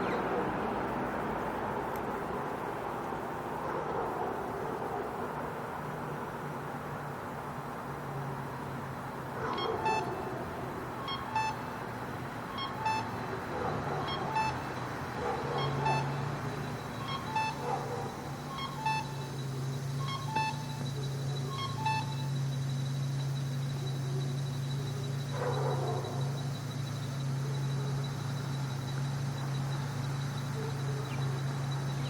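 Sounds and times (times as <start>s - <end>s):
crossing signal beeping: 0.0s - 3.6s, 7.6s - 32.0s
city traffic noise: 0.0s - 32.0s.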